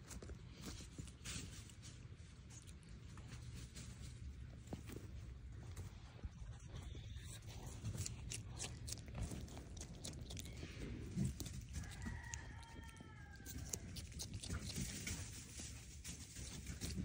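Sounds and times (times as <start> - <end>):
animal chewing and crunching: 0.0 - 17.0.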